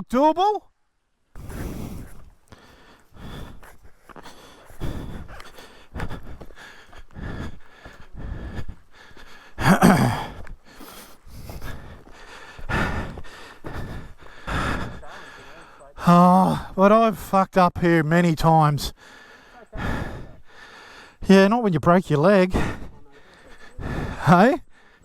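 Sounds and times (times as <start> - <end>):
person breathing hard: 1.4 - 16.8, 18.9 - 21.3, 22.5 - 25.0.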